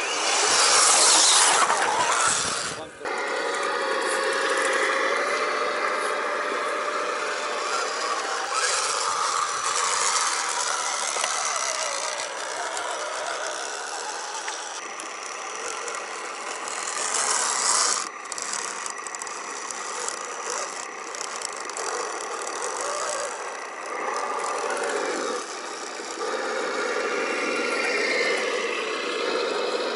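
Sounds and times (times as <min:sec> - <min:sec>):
rattling and tyre noise: 0:00.0 - 0:29.9
rc truck motor whirring: 0:00.0 - 0:29.9.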